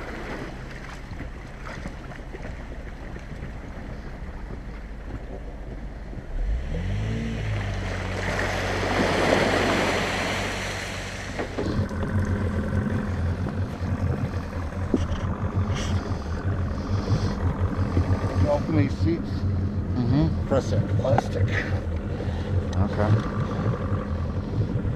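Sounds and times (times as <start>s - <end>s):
engine starting and running: 0.0s - 24.9s.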